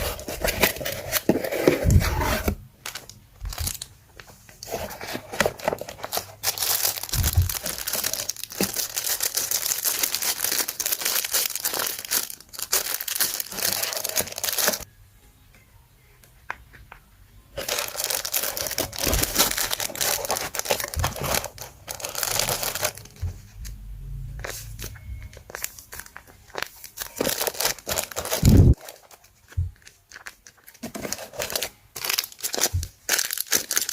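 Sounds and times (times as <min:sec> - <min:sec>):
paper crinkling and tearing: 0:00.0 - 0:14.9, 0:17.6 - 0:23.5, 0:24.4 - 0:33.9.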